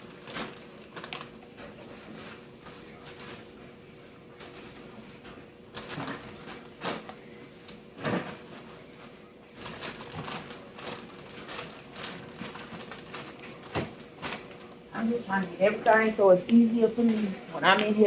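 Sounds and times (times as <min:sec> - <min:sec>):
freezer hum: 0:00.0 - 0:18.0
plastic bag rustling: 0:00.0 - 0:18.0.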